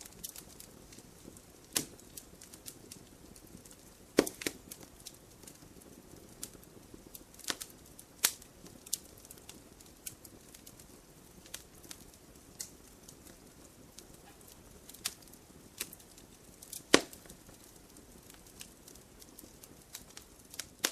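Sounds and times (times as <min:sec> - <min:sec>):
campfire crackling and popping: 0:00.0 - 0:20.9
soft low hiss of fire: 0:00.0 - 0:20.9.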